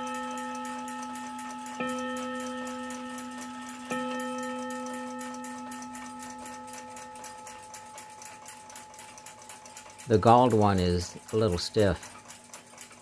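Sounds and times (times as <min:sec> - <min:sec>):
clock gong ringing: 0:00.0 - 0:12.2
clock ticking quickly: 0:00.0 - 0:13.0.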